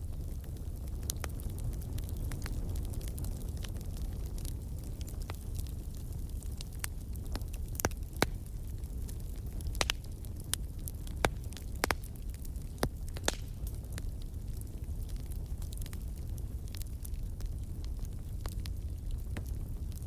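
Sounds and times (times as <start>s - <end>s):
bonfire crackling: 0.0s - 20.0s
low rumble of flames: 0.0s - 20.0s.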